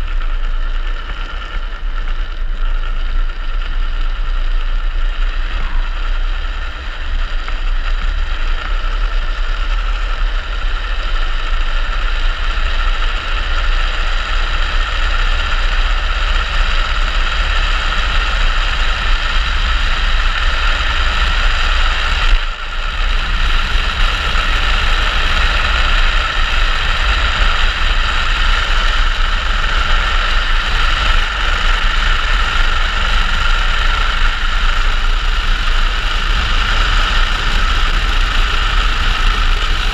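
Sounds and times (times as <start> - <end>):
wheels rolling on asphalt: 0.0 - 39.9
wind rushing over microphone: 0.0 - 39.9.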